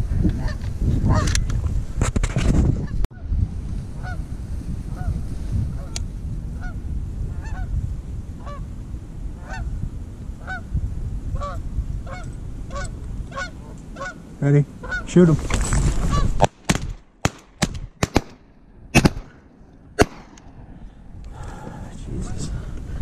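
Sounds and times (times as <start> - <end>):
wind rumble on microphone: 0.0 - 17.0, 19.9 - 23.0.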